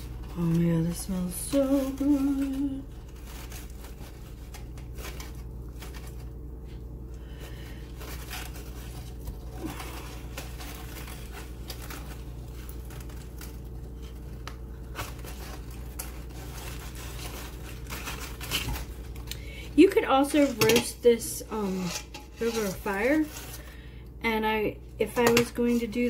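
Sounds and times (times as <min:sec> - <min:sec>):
aluminium foil crinkling: 0:00.0 - 0:26.0
steady low hum: 0:00.0 - 0:26.0.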